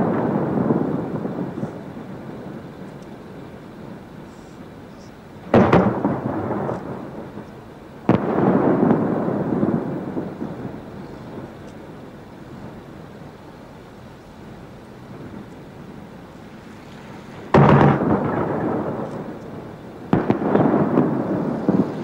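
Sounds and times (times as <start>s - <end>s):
firework bangs and rumble: 0.0s - 22.0s.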